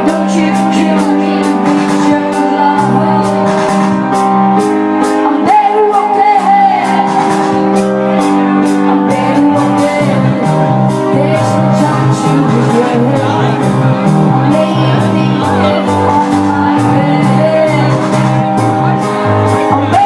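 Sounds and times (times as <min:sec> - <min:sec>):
live rock band: 0:00.0 - 0:20.0
person singing: 0:00.0 - 0:20.0.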